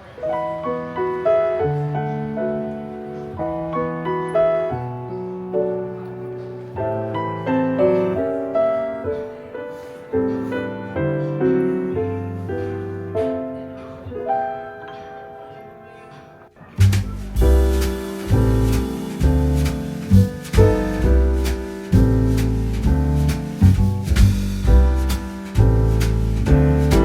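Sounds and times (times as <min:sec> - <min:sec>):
gentle solo piano melody: 0:00.0 - 0:27.0.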